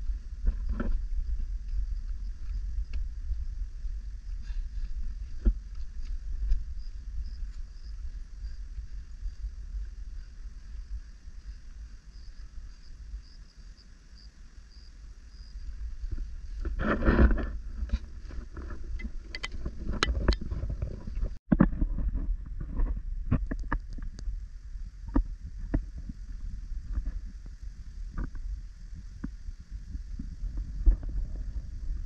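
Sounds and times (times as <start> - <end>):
rustling gust: 0.0 - 32.0
wind buffeting microphone: 0.0 - 32.0.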